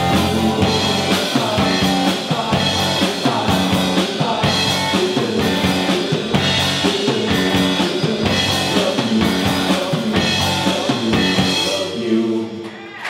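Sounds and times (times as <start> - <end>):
live rock band playing: 0.0 - 12.0
steady drum beat: 0.0 - 12.0.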